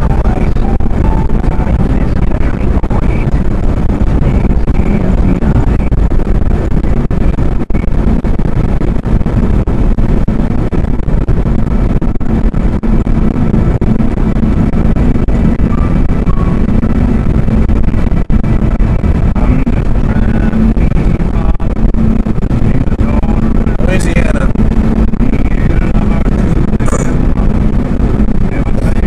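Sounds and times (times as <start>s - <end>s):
car engine hum: 0.0s - 29.0s
road noise inside car: 0.0s - 29.0s.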